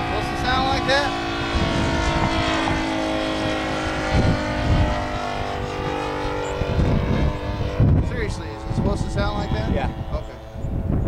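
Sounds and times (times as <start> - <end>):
model plane engine buzzing: 0.0 - 11.0.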